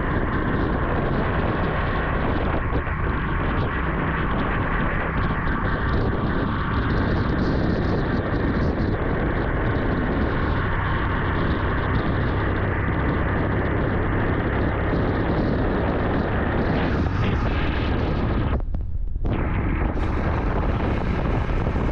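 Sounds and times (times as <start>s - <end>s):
motorcycle engine running: 0.0s - 21.9s
rushing wind noise of riding: 0.0s - 21.9s.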